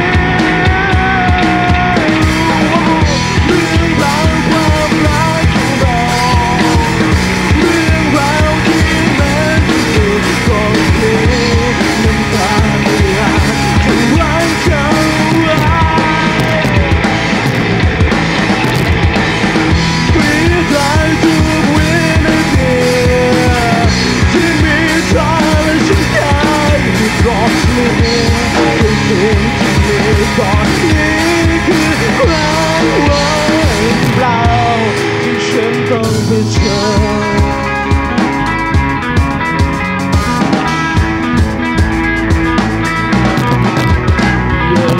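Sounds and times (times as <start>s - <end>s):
person singing: 0.0s - 17.8s, 19.7s - 41.8s, 42.9s - 44.9s
bass guitar: 0.0s - 44.9s
drums keeping a beat: 0.0s - 44.9s
electric guitar: 0.0s - 44.9s
live rock band playing: 0.0s - 44.9s.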